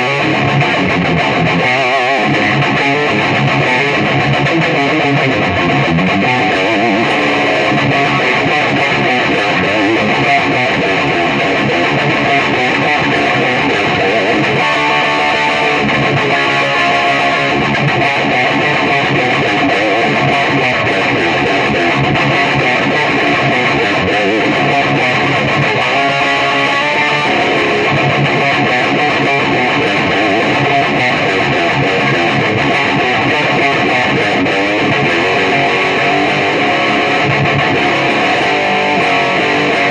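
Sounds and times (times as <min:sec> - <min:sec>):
electric guitar through amplifier: 0:00.0 - 0:39.9.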